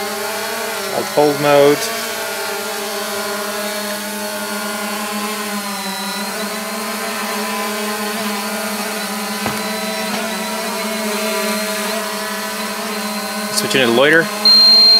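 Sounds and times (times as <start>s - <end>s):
drone propellers humming: 0.0s - 14.9s.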